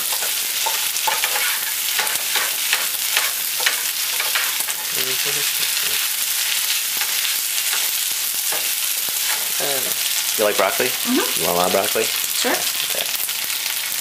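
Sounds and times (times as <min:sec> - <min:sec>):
noodles sizzling in a skillet: 0:00.0 - 0:14.0.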